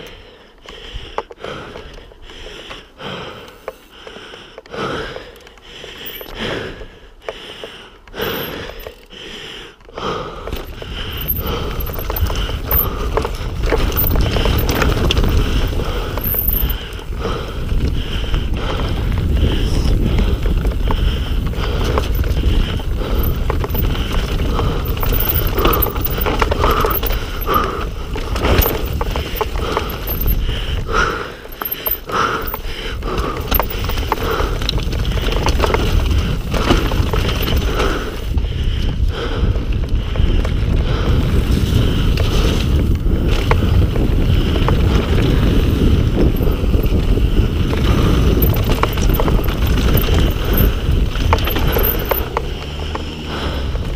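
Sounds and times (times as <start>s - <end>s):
bike tyres on rough trail: 0.0s - 53.9s
bike chain and frame rattling: 5.1s - 7.1s, 7.8s - 9.3s, 10.0s - 53.9s.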